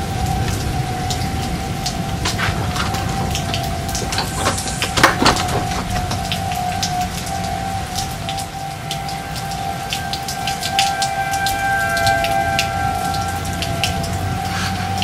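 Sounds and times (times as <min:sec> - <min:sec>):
constant mid-pitched tone: 0:00.0 - 0:15.0
steady rain: 0:00.0 - 0:15.0.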